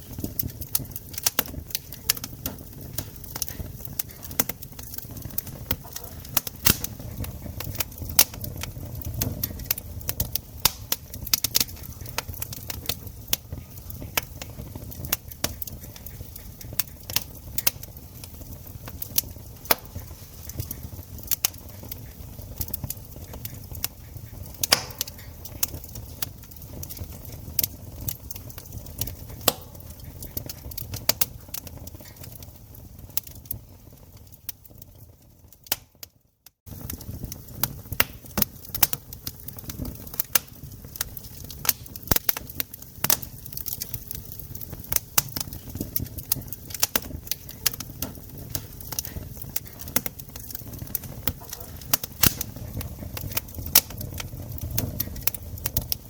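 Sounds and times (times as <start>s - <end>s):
campfire pops and snaps: 0.0s - 56.0s
low sound of burning: 0.0s - 56.0s.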